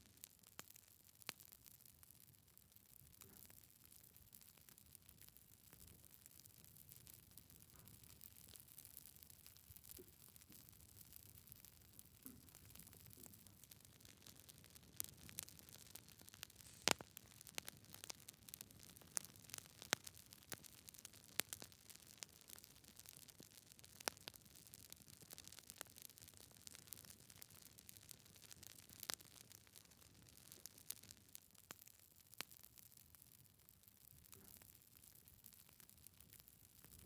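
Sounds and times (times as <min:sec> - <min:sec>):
logs crackling in a fireplace: 0:00.0 - 0:37.0.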